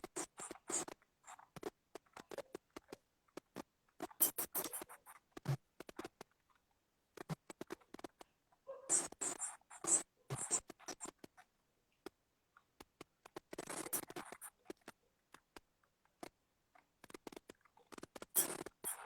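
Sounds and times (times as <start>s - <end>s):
light taps and scratches: 0.0s - 6.6s, 7.2s - 19.0s.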